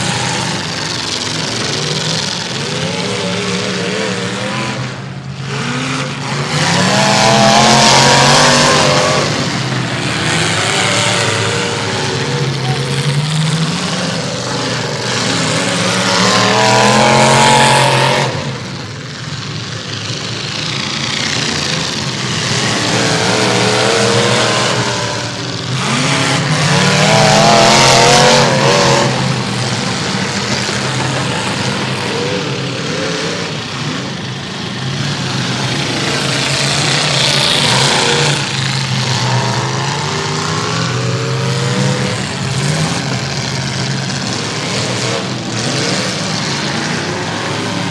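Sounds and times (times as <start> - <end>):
car engines revving hard: 0.0 - 47.9.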